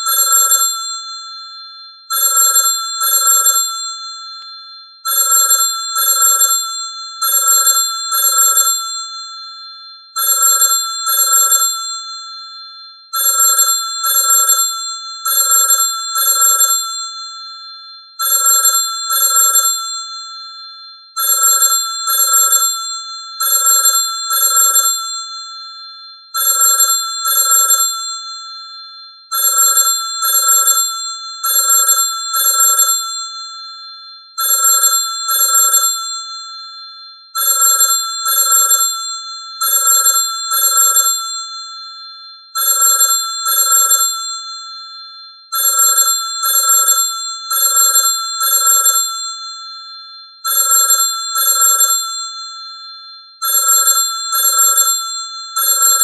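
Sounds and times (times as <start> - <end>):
telephone bell ringing: 0.0 - 56.0.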